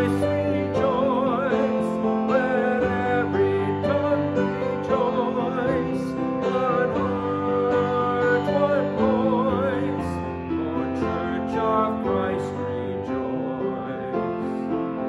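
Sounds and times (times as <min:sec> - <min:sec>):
hymn with held chords: 0:00.0 - 0:15.0
person singing with vibrato: 0:00.0 - 0:15.0.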